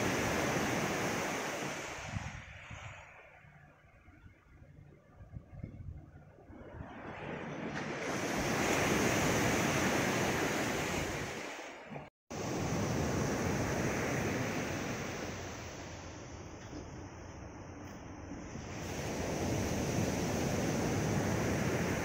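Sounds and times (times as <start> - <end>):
surf washing among concrete blocks: 0.0 - 3.4, 6.5 - 17.5, 18.4 - 22.0.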